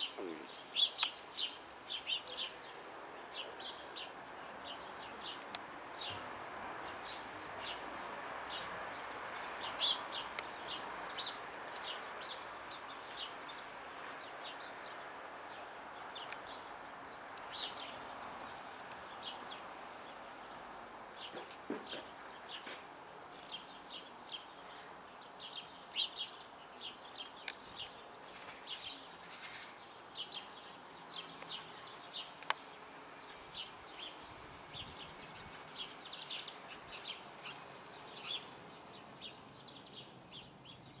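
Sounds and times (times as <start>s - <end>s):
background hiss: 0.0s - 41.0s
small birds chirping: 0.0s - 41.0s.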